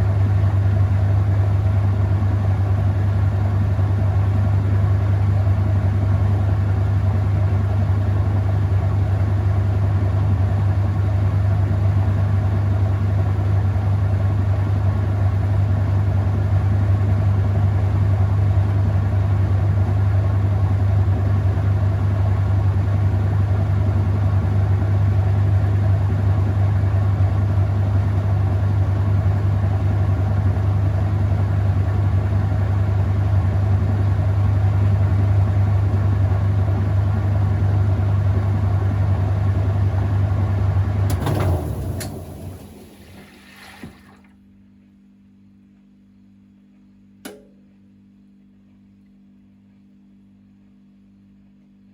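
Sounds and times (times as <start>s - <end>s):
washing machine spinning: 0.1s - 44.3s.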